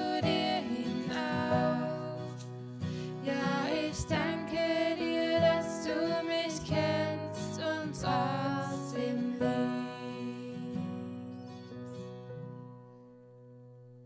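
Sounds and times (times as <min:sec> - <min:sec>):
acoustic guitar worship music: 0:00.0 - 0:14.0.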